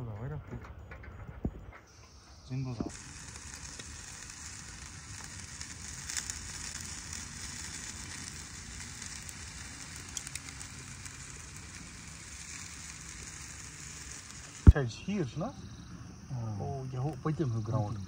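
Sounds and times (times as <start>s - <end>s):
charcoal crackling: 1.9s - 18.0s
meat sizzling on a grill: 1.9s - 18.0s.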